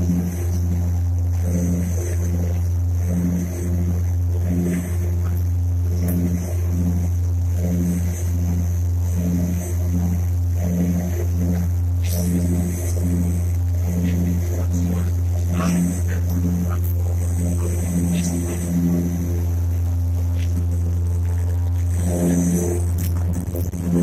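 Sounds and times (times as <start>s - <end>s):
aircraft engines droning: 0.0s - 24.0s.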